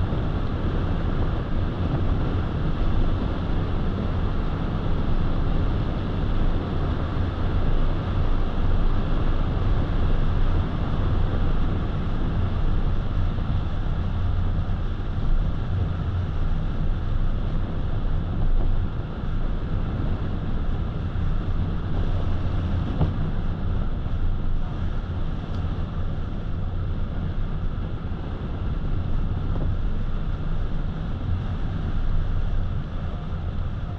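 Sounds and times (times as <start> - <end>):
car rumble inside cabin: 0.0 - 33.9.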